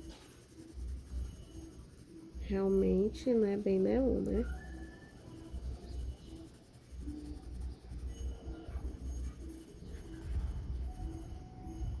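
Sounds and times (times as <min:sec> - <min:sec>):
pencil scratching on paper: 0:00.0 - 0:12.0.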